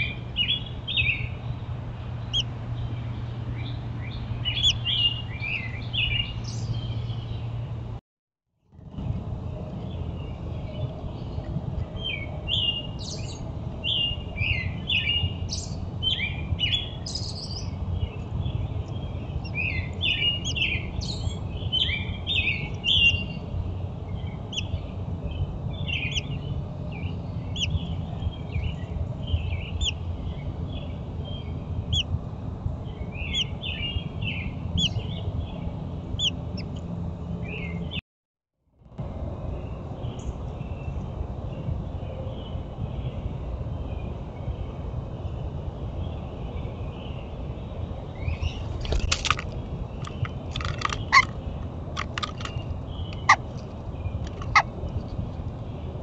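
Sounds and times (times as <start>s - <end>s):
birds chirping: 0.0s - 7.9s, 9.9s - 32.2s, 32.8s - 38.0s, 39.6s - 56.0s.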